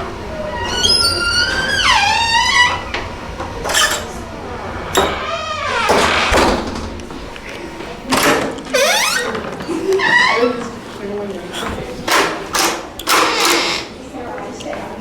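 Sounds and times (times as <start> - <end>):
door creaking: 0.4 - 10.8, 12.2 - 14.0.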